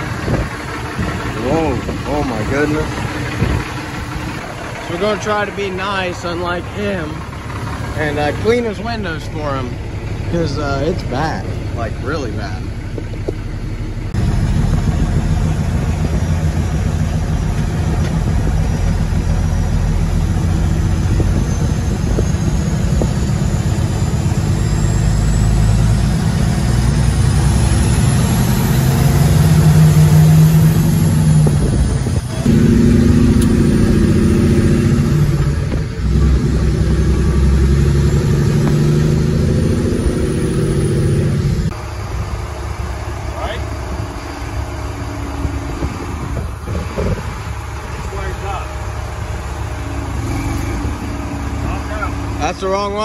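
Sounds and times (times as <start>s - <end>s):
truck diesel engine: 0.0s - 53.0s.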